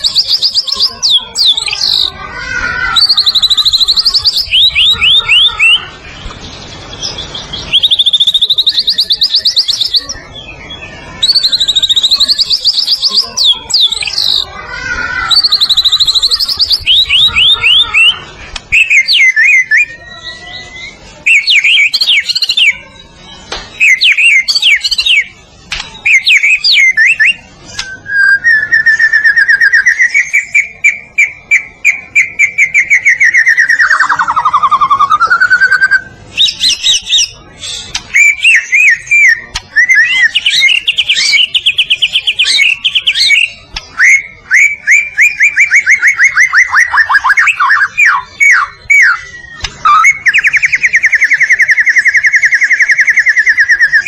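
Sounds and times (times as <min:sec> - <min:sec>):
bird singing whistled phrases: 0:00.0 - 0:02.1, 0:02.8 - 0:06.0, 0:06.8 - 0:14.4, 0:15.2 - 0:23.0, 0:23.7 - 0:54.0
bird rapid trill: 0:00.0 - 0:23.1, 0:23.7 - 0:54.0.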